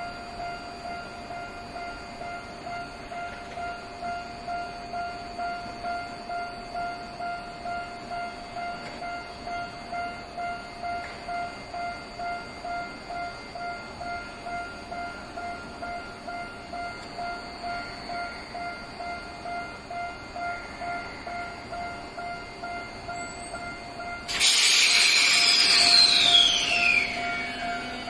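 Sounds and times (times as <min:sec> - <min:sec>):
level crossing warning bell: 0:00.0 - 0:24.4, 0:26.2 - 0:28.0.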